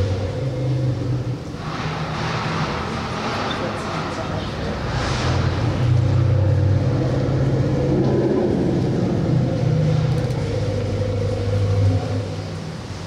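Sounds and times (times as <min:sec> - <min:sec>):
elephants rumbling: 0:00.0 - 0:13.0.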